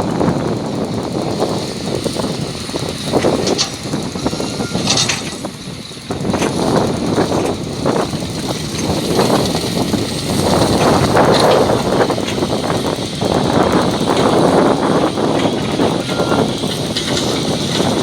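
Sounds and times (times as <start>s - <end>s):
diesel engine rumble: 0.0s - 18.0s.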